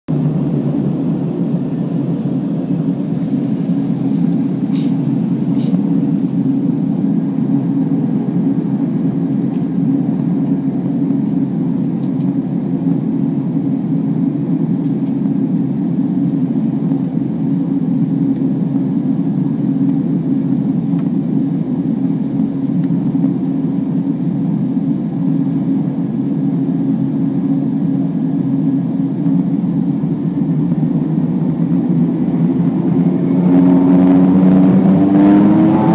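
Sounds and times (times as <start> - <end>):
turboprop airliner engines droning: 0.1 - 35.9.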